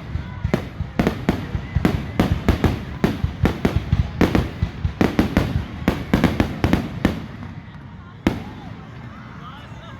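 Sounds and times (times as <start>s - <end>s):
firecrackers banging: 0.0s - 9.0s.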